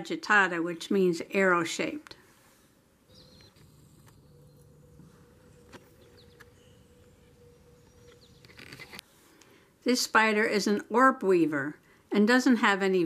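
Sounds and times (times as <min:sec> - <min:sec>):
faint steady hum: 0:00.1 - 0:12.3.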